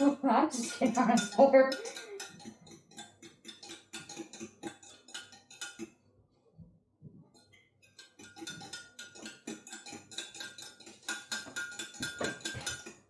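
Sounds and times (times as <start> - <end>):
fork clinking on glass: 0.6 - 6.0, 7.4 - 13.0.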